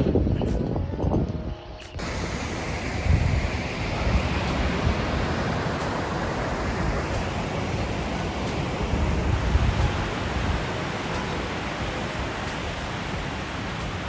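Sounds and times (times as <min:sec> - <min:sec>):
wind on microphone: 0:00.0 - 0:14.0
ocean surf washing: 0:02.0 - 0:14.0.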